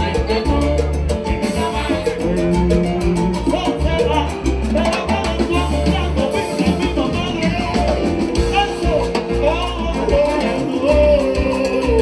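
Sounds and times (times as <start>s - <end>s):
live latin band playing: 0.0s - 12.0s.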